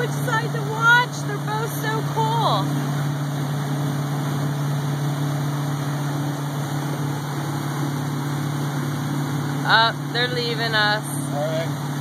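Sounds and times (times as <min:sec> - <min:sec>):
motorboat engine droning: 0:00.0 - 0:12.0
rushing boat wake: 0:00.0 - 0:12.0.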